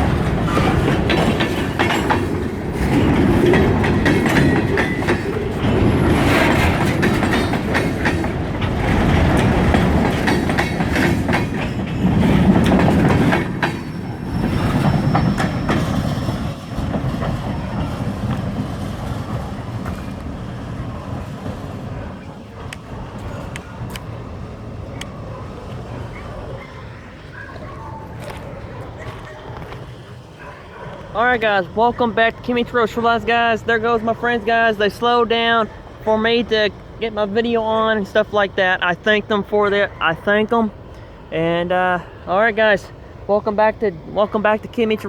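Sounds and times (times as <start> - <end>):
train wheels clicking on rails: 0.0 - 41.1
train rumbling: 0.0 - 45.0.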